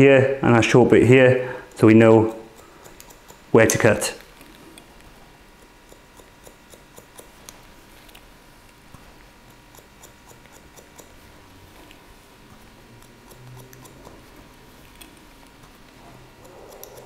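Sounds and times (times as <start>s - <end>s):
scissors snipping hair: 1.7s - 17.0s.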